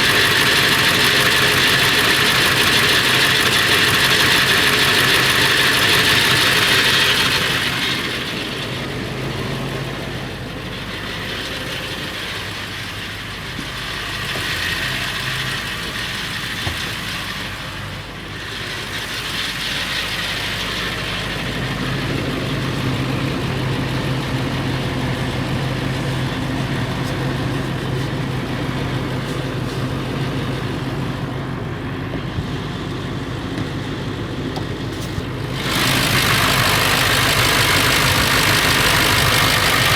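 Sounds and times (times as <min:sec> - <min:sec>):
diesel engine idling: 0:00.0 - 0:39.9
engine rattle: 0:00.0 - 0:39.9.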